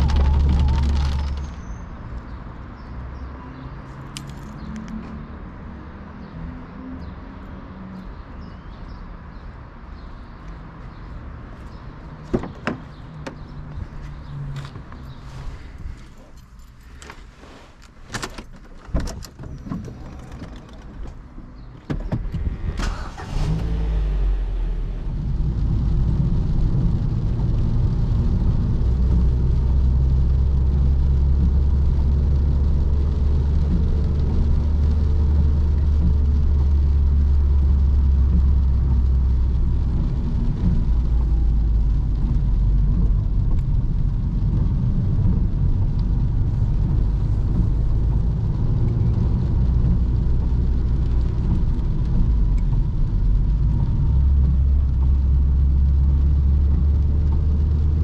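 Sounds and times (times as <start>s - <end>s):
car engine starting and running: 0.0s - 3.3s, 11.6s - 58.0s.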